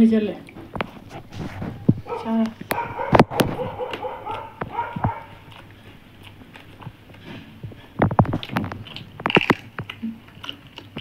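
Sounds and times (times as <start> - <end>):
people chewing with wet smacks: 0.2 - 11.0.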